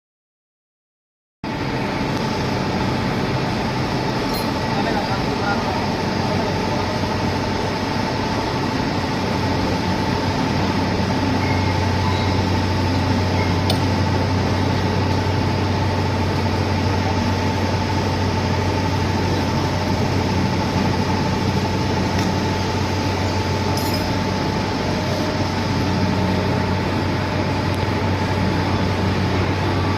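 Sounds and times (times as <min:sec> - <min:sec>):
lathe motor humming: 0:01.5 - 0:29.9.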